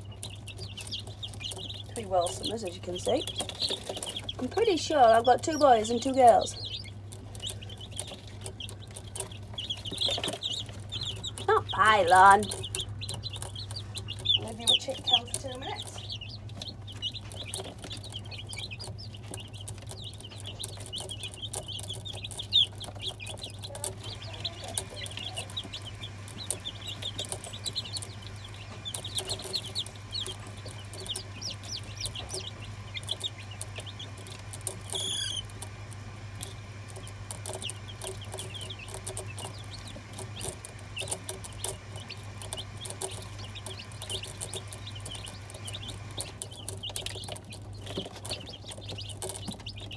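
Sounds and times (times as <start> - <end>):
chicks cheeping: 0.0 - 49.9
steady low hum: 0.0 - 49.9.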